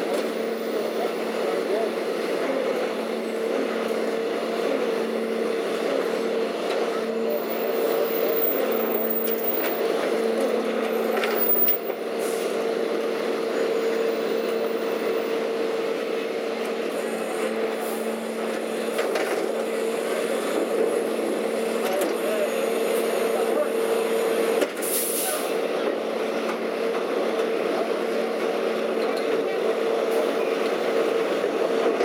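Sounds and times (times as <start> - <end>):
garbage truck running: 0.0 - 32.0.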